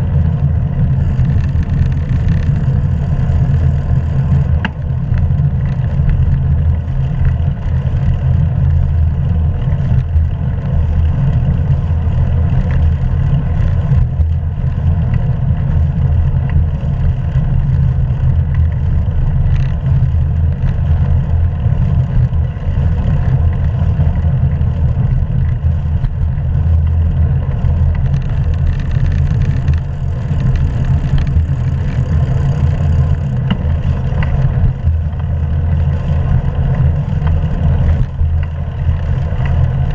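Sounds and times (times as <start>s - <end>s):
tyre and road noise: 0.0s - 39.9s
wind rumble on microphone: 0.0s - 39.9s.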